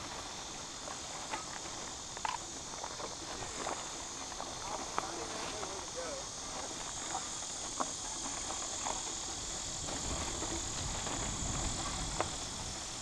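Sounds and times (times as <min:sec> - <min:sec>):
bike rolling rumble: 0:00.0 - 0:13.0
high-pitched insect drone: 0:00.0 - 0:13.0.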